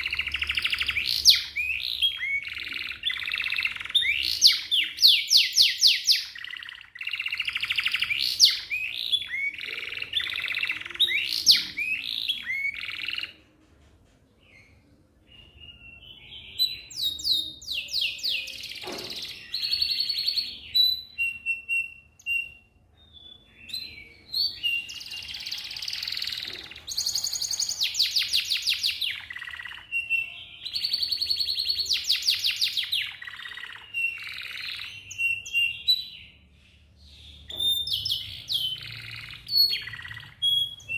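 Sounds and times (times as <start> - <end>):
canary singing trills: 0.0 - 13.4, 14.5 - 40.9.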